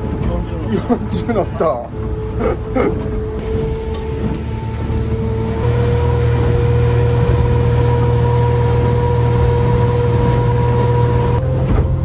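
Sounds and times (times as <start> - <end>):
outboard engine drone with whine: 0.0 - 12.0
water and wind rushing: 0.0 - 12.0.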